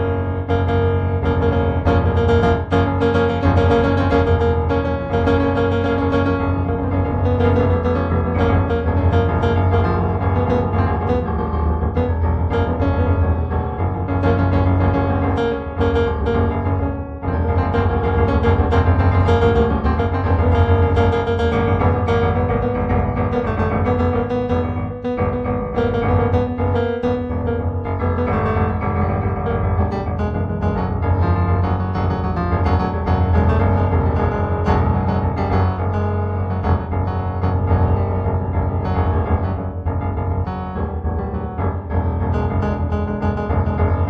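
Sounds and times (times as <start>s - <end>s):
piano music: 0.0s - 44.0s
steady low bass: 0.0s - 44.0s.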